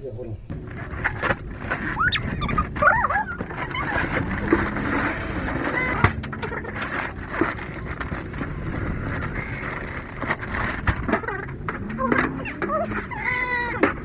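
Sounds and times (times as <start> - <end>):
dry feed pouring rattle: 0.5 - 14.0.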